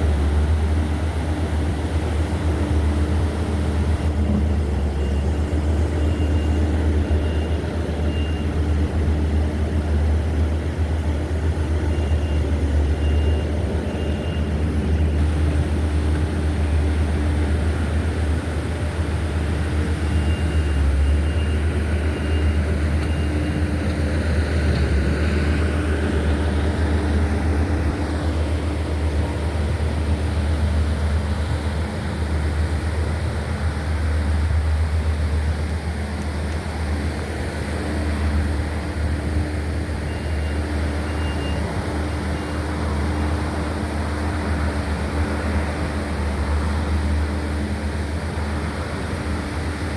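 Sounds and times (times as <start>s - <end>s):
car engine rumble: 0.0s - 49.9s
road noise: 0.0s - 49.9s.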